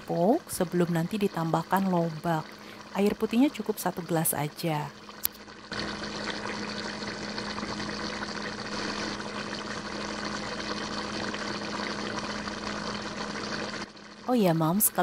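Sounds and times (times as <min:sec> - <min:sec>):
broth boiling in a pan: 0:00.0 - 0:15.0.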